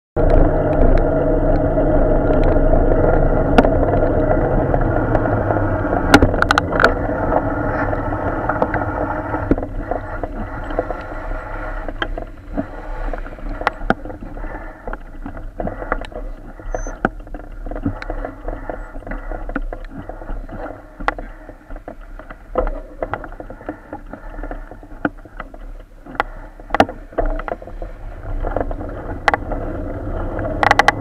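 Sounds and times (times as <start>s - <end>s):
idling car engines hum: 0.2s - 31.0s.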